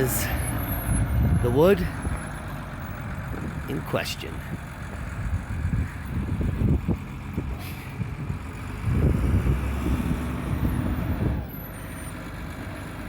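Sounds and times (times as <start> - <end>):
forklift engine rumbling: 0.0 - 13.0.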